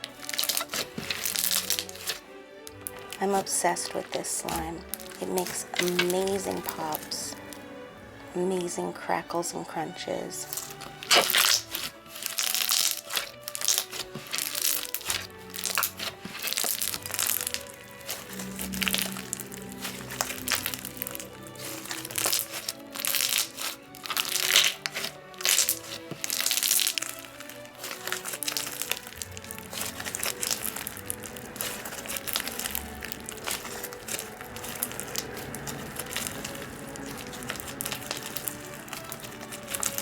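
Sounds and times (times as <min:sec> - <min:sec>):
slime crackling and popping: 0:00.0 - 0:07.6, 0:10.4 - 0:40.0
background music: 0:00.0 - 0:40.0.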